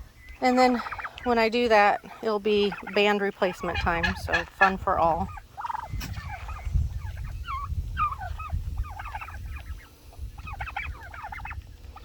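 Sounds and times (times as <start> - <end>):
young turkeys peeping and yelping: 0.0 - 12.0.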